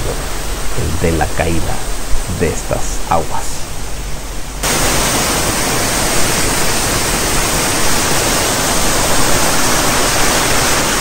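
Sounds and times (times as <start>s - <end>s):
waterfall rushing and splashing: 0.0s - 11.0s.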